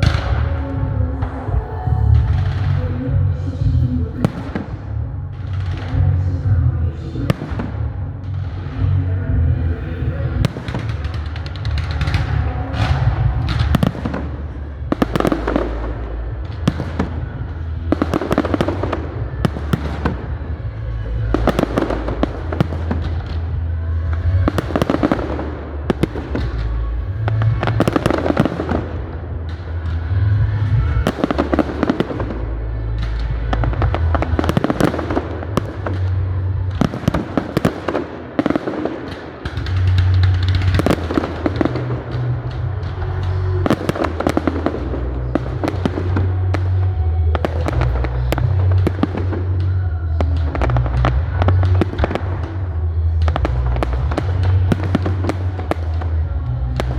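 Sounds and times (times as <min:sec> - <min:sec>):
fireworks bangs and crackling: 0:00.0 - 0:56.9
loud music with deep bass: 0:00.0 - 0:56.9.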